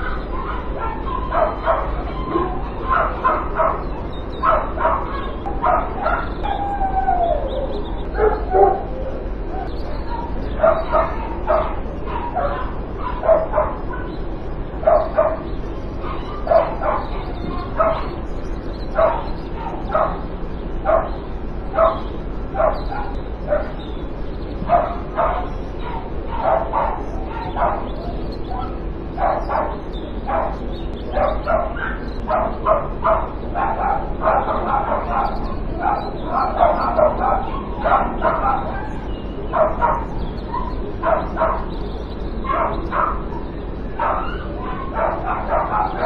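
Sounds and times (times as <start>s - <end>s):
dog barking and yipping: 0.0s - 24.0s, 24.6s - 46.0s
steady low hum: 0.0s - 46.0s.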